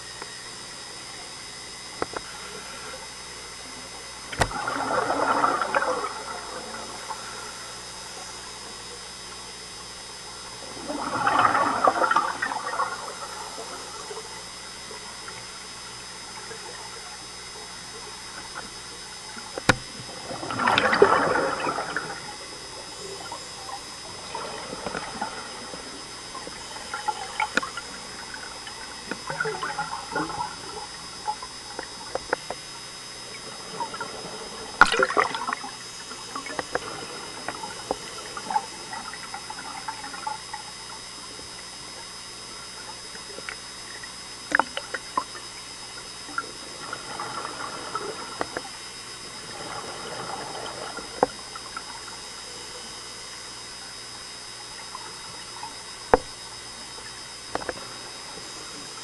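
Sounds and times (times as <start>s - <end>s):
faint high whine: 0.0s - 59.0s
underwater bubbles gurgling: 0.0s - 59.0s.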